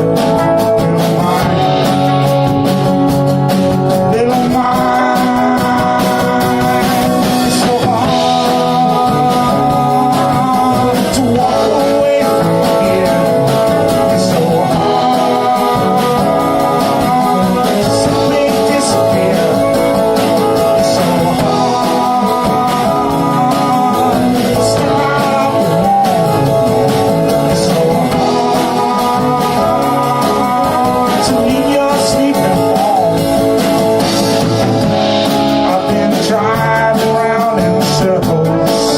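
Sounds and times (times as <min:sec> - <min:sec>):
folk band with guitar: 0:00.0 - 0:38.9
person singing: 0:00.0 - 0:38.9.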